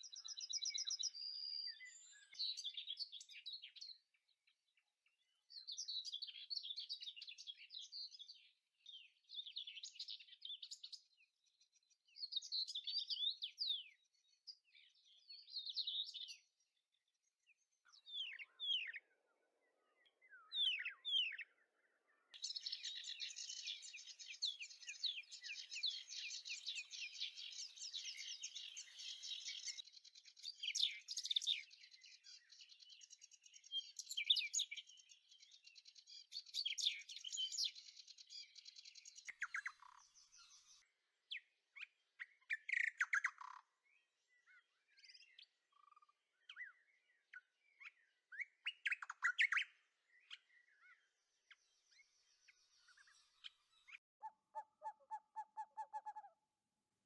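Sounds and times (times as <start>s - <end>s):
small birds chirping: 0.0s - 56.6s.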